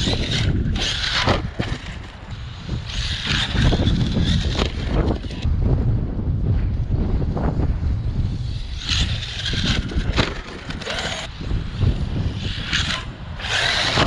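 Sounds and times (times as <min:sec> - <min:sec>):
rc truck motor whine: 0:00.0 - 0:05.5, 0:07.8 - 0:14.0
wind buffeting microphone: 0:00.0 - 0:14.0.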